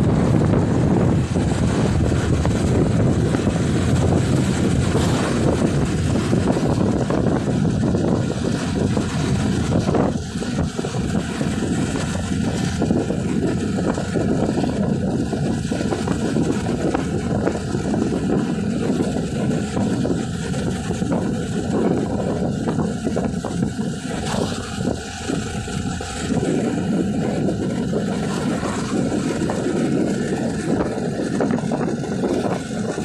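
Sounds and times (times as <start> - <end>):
motorcycle engine running: 0.0 - 33.0
wind noise on microphone: 0.0 - 33.0.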